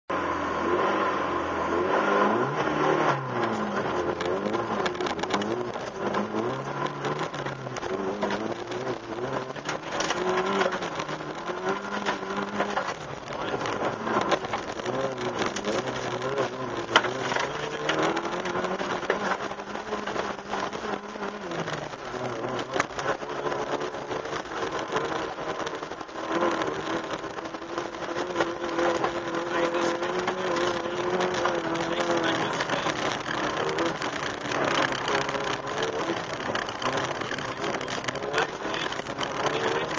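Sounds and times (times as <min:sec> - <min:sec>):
rally car engine revving: 0:00.0 - 0:39.9
sharp clicks and knocks: 0:02.6 - 0:39.9.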